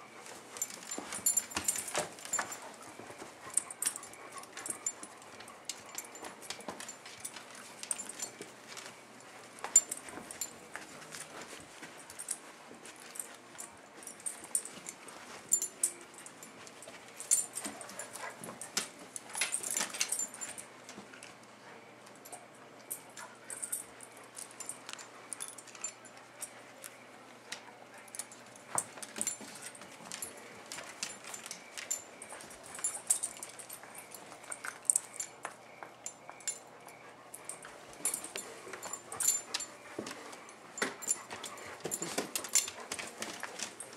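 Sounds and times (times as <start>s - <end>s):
dog collar tags jingling: 0.1s - 43.9s.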